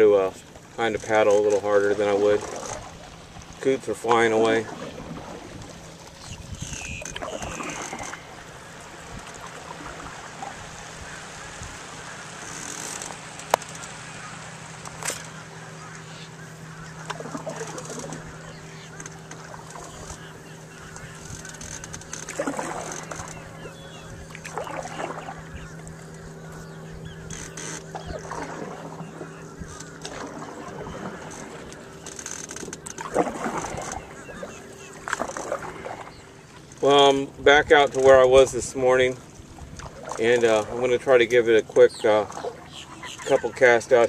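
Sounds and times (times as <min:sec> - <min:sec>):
low steady hum: 0:00.0 - 0:44.0
water: 0:00.0 - 0:44.0
wind: 0:00.0 - 0:44.0
coots calling: 0:00.8 - 0:38.2, 0:39.9 - 0:44.0.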